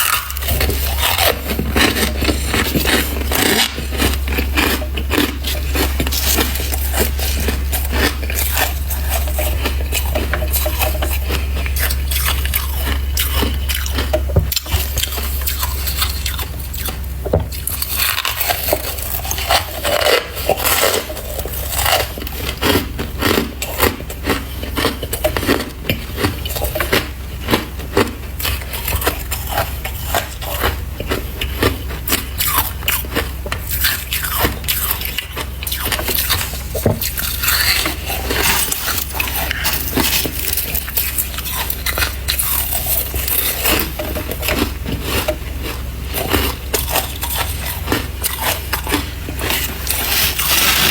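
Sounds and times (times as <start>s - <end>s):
frost being scraped and crunched: 0.0s - 13.9s, 14.7s - 27.5s, 33.7s - 50.9s
low steady hum: 0.0s - 50.9s.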